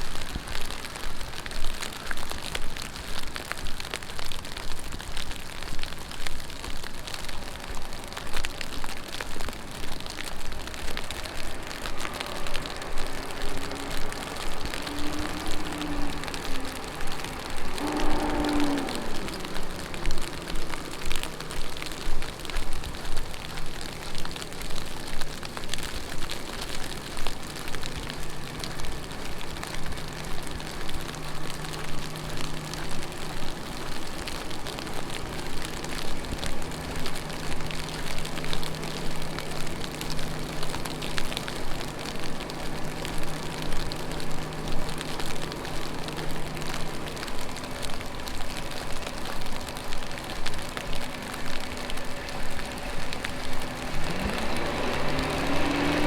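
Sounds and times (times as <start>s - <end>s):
footsteps splashing on wet pavement: 0.0s - 56.0s
heavy rain on street: 0.0s - 56.0s.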